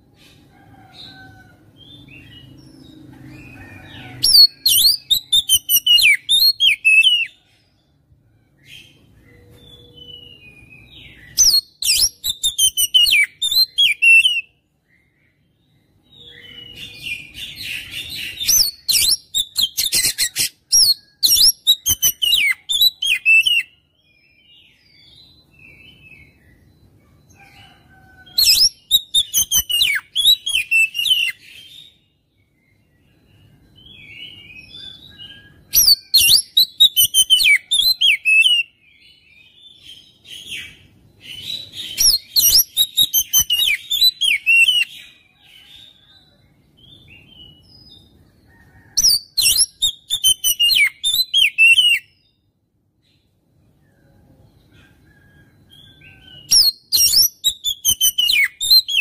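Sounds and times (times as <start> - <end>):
magpie-robin whistled song: 1.8 - 7.5, 8.6 - 15.5, 16.1 - 27.0, 28.2 - 48.2, 48.8 - 52.4, 53.9 - 59.0.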